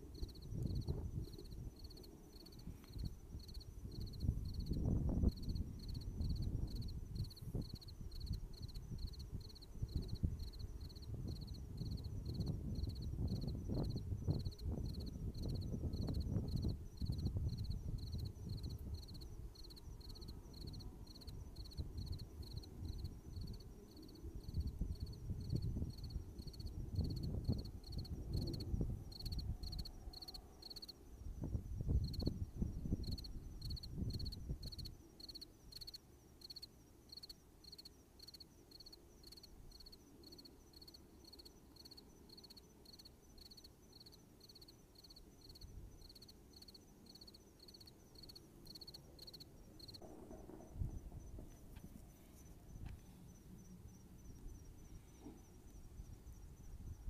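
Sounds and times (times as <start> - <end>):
insect chirping in high pulses: 0.1 - 57.0.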